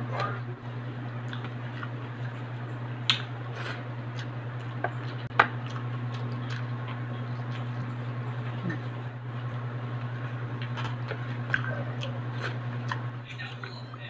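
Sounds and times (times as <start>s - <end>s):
steady low hum: 0.0s - 14.0s
chewing: 1.2s - 13.8s.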